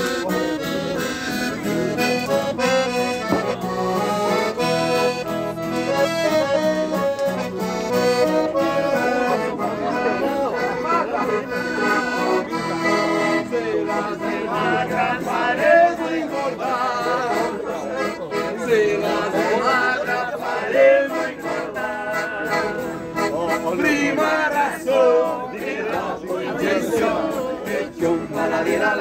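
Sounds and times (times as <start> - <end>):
accordion playing: 0.0 - 29.0
guitar playing: 0.0 - 29.0
people talking: 0.0 - 29.0.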